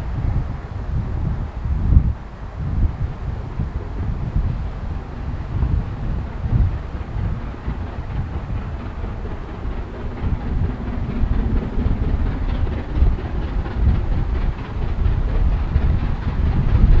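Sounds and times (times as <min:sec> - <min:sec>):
wind on microphone: 0:00.0 - 0:17.0
train wheels clicking over rail joints: 0:03.1 - 0:17.0.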